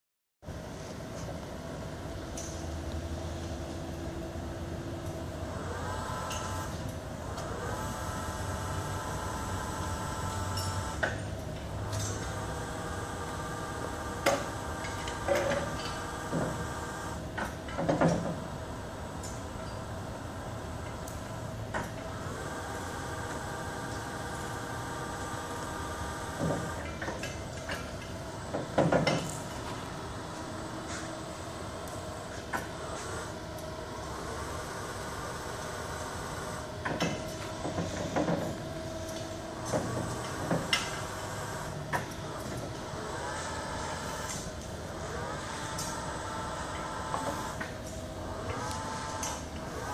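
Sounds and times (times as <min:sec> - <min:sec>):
hydraulic motor hum: 0:01.2 - 0:49.9.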